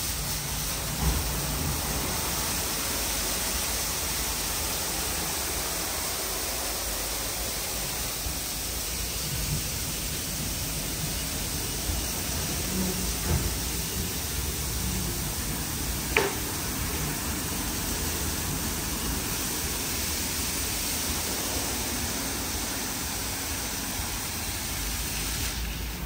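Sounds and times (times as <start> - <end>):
car wash spraying water: 0.0 - 26.0.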